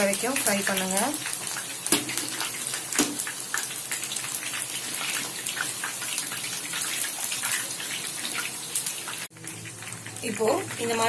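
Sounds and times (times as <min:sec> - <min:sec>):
chicken wings deep-frying in oil: 0:00.0 - 0:11.0.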